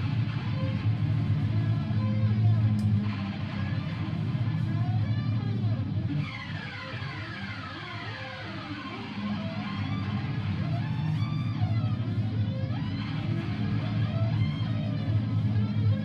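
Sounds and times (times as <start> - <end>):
low guitar noise drone: 0.0 - 16.0.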